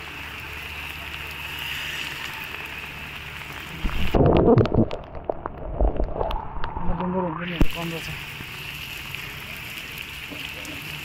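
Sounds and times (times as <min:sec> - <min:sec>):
heavy rain on wet road: 0:00.0 - 0:05.1, 0:07.0 - 0:11.0.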